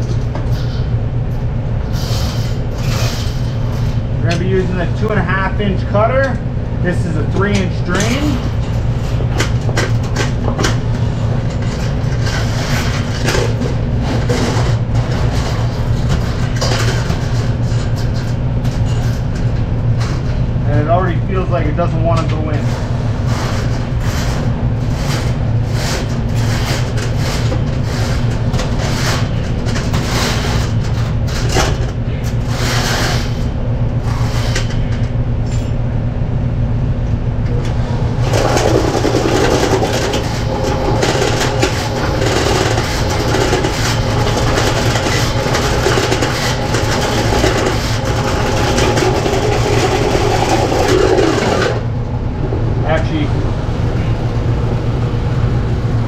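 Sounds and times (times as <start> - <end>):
drain snake machine running: 0.0 - 56.0.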